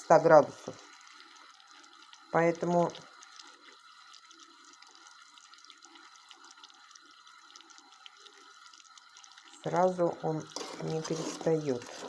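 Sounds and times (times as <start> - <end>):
sugar syrup boiling: 0.0 - 12.0.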